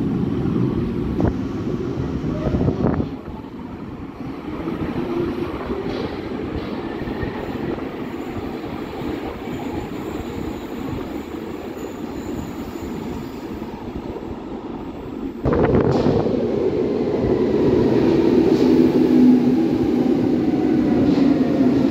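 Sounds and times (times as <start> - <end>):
train rumbling on rails: 0.0 - 21.9.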